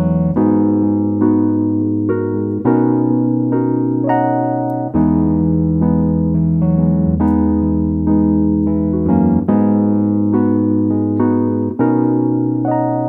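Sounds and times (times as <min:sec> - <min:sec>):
piano chords over bass notes: 0:00.0 - 0:13.0.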